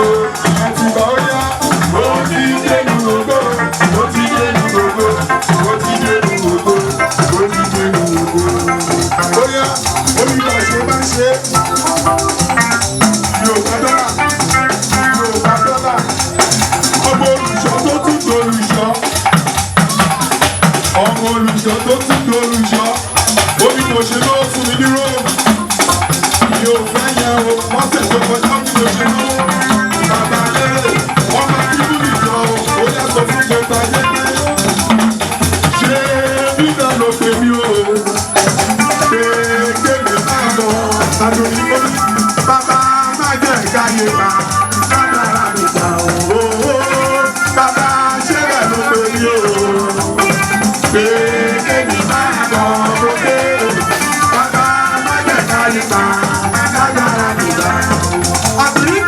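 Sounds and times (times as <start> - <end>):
keyboard melody: 0.0 - 59.0
shaker rattling: 0.0 - 59.0.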